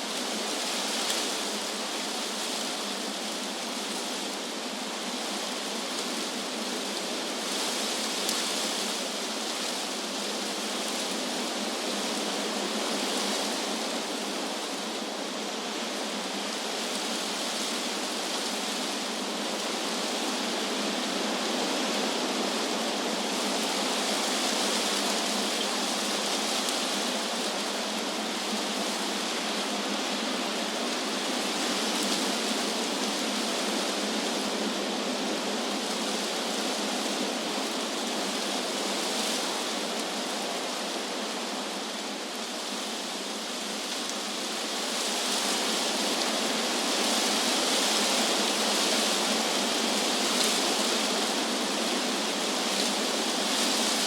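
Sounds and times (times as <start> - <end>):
wind through trees: 0.0 - 54.0.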